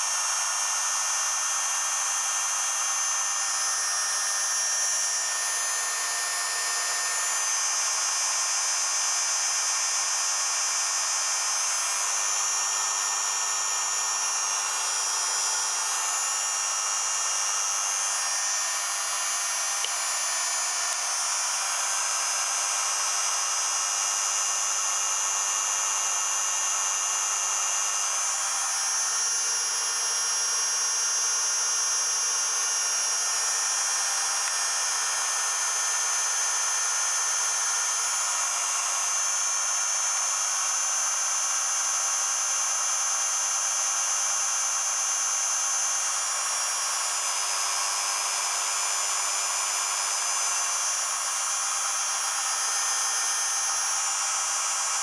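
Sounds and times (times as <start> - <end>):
high-pitched electric motor whine: 0.0 - 55.0.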